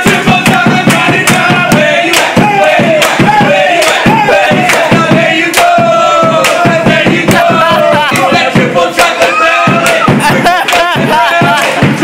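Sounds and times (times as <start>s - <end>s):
group singing a celebration song: 0.0s - 12.0s
steady clapping: 0.0s - 12.0s.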